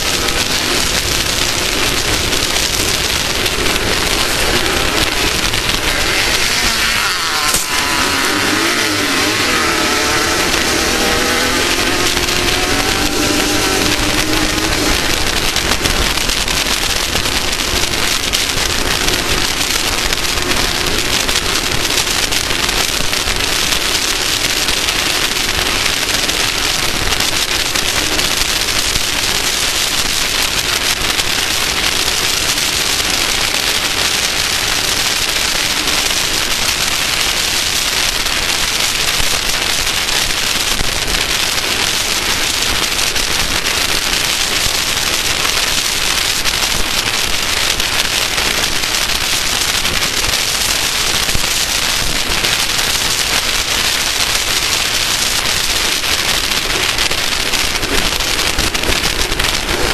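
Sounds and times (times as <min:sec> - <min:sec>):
race vehicle engine running: 0:00.0 - 0:52.7
loud steady rushing noise: 0:00.0 - 0:59.9.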